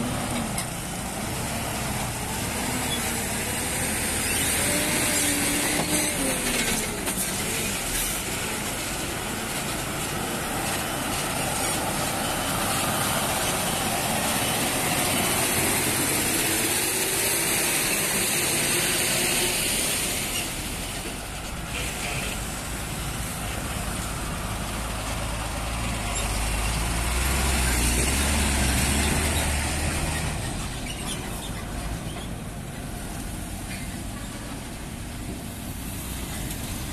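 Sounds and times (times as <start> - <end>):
diesel lorries driving past: 0.0 - 36.9.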